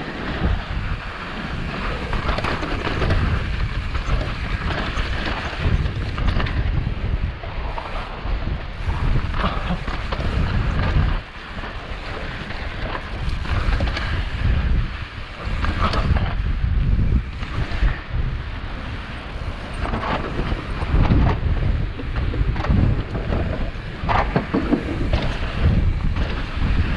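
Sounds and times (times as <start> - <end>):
wind rushing over microphone: 0.0 - 26.9
bike knocks and rattles: 0.3 - 18.4, 19.4 - 26.9.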